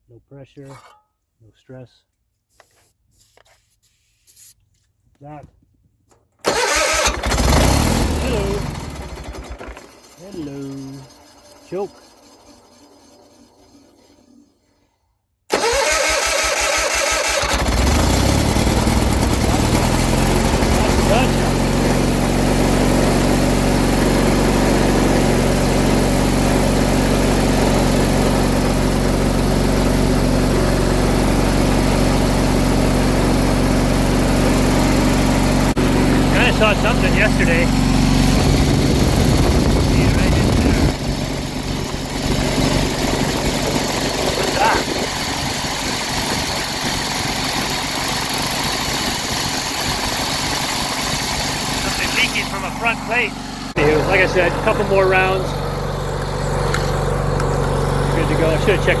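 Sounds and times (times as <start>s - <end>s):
garden tractor engine idling: 6.4s - 14.7s, 15.5s - 59.0s.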